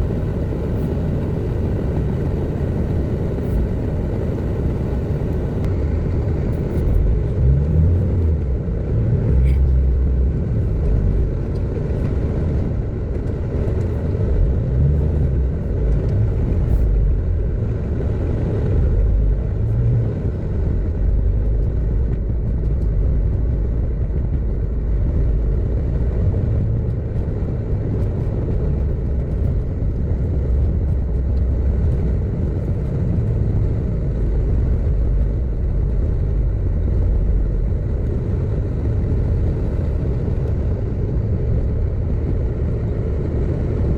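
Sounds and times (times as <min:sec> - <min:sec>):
car engine and road rumble: 0:00.0 - 0:43.9.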